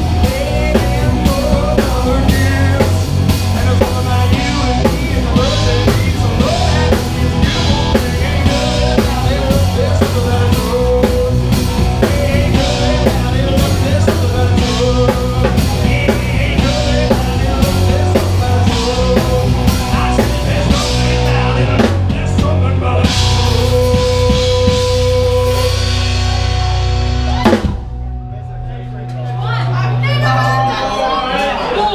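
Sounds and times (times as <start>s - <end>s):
live rock band playing: 0.0s - 31.5s.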